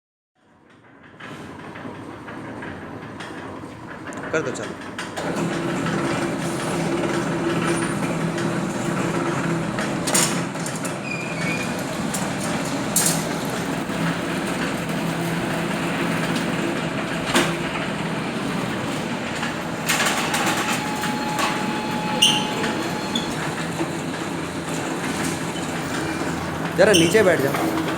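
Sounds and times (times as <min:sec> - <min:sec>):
wire bending machine running: 0:03.4 - 0:27.9.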